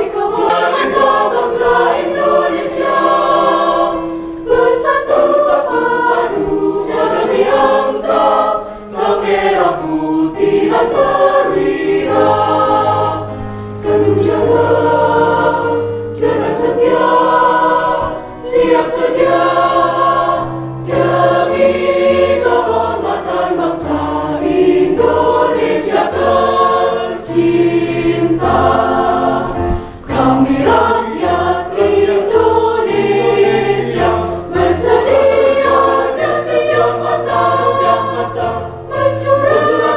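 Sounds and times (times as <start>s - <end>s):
mixed choir singing: 0.0s - 39.9s.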